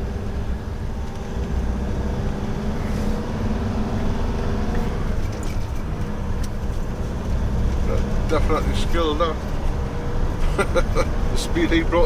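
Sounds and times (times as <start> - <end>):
diesel engine drone: 0.0 - 12.0
tyre and road noise: 0.0 - 12.0.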